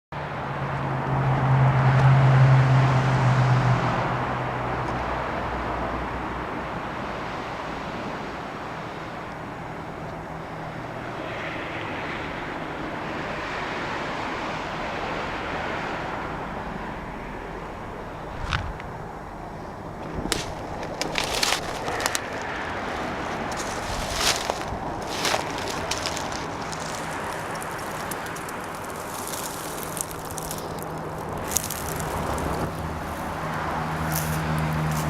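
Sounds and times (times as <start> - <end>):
engine passing by: 0.2 - 35.0.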